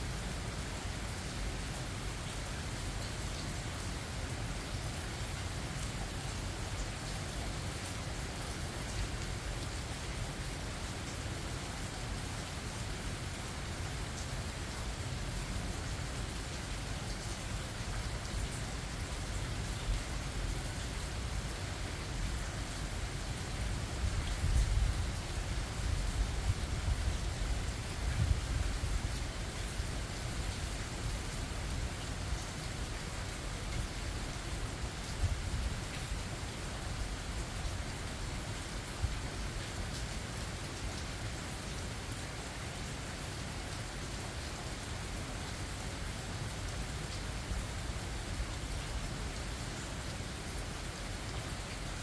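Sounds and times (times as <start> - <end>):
rain falling in forest: 0.0 - 52.0.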